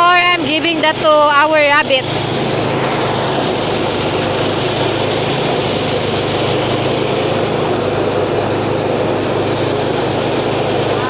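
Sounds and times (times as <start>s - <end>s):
engine hum: 0.0s - 11.0s
threshing drum rushing: 0.0s - 11.0s.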